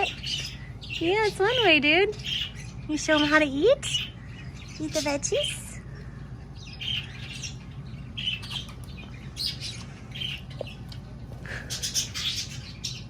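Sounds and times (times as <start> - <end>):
budgerigar chirping and chattering: 0.0 - 5.8, 6.5 - 13.0.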